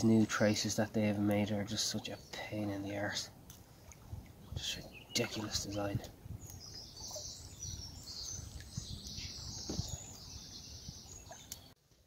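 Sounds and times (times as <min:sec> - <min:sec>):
small birds chirping: 0:01.0 - 0:11.8.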